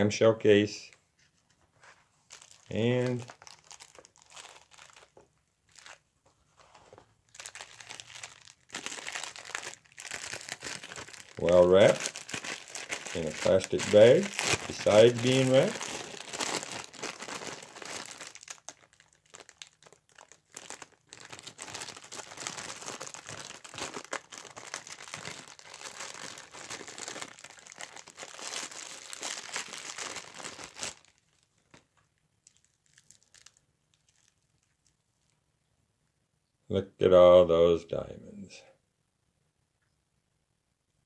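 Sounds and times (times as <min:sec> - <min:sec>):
plastic bag crinkling: 0:01.8 - 0:35.4.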